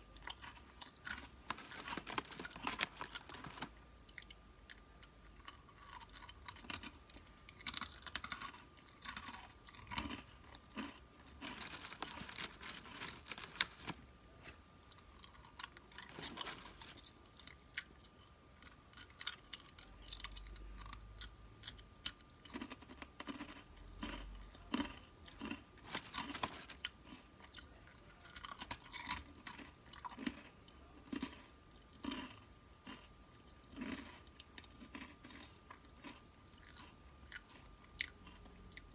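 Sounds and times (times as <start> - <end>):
chewing and crunching snacks: 0.0 - 38.9.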